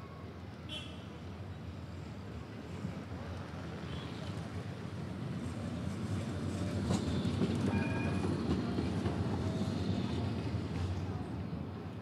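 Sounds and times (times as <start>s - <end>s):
tram wheels rumbling on rail: 1.7s - 12.0s.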